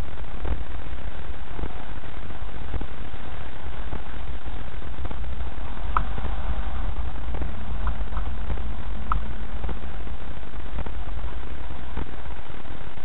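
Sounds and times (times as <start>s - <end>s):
vehicle cabin rumble: 0.0s - 13.0s.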